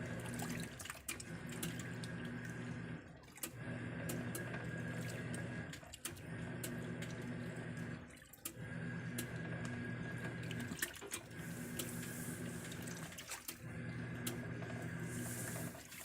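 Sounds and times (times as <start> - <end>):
water sloshing: 0.0 - 8.6, 10.1 - 16.0
washing machine motor humming: 0.0 - 16.0.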